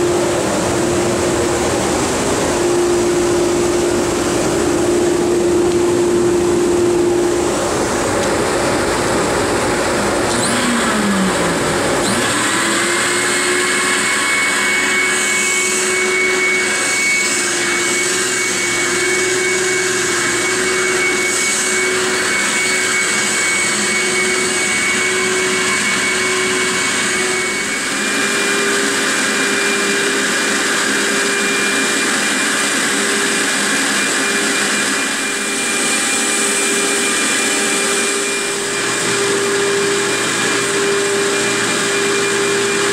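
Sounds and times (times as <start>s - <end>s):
second motor spinning up: 0.0s - 42.9s
vacuum pump whine: 0.0s - 42.9s.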